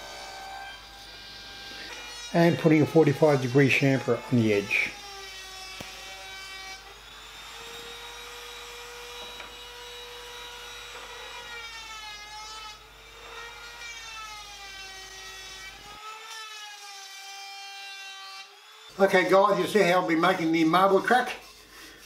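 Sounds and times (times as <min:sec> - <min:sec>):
router motor whine cutting wood: 0:00.0 - 0:21.5.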